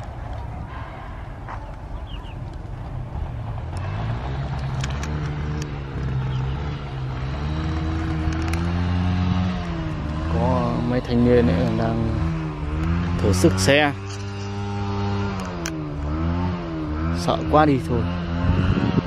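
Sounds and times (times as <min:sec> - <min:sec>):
motorbike engines revving: 0:00.0 - 0:19.0.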